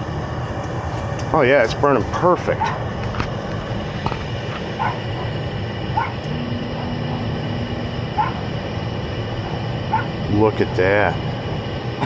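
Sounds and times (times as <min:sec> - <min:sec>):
gas furnace rushing hum: 0:00.0 - 0:12.0.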